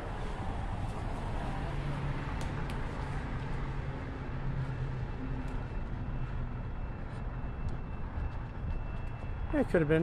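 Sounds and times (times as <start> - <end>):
outdoor street noise: 0.0 - 10.0.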